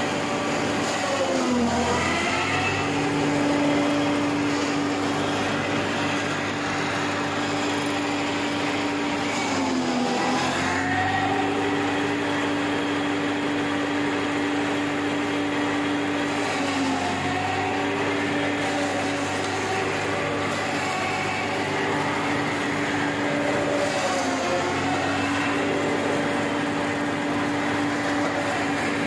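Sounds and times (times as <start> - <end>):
baling machine droning: 0.0 - 29.0.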